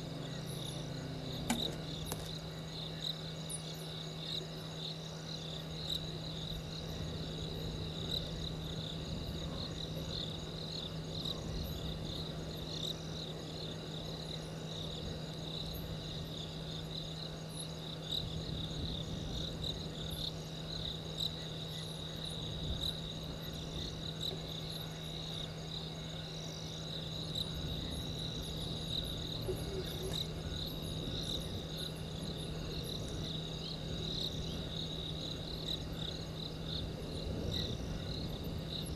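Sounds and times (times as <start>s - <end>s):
constant low hum: 0.0s - 38.9s
crickets trilling: 0.0s - 38.9s.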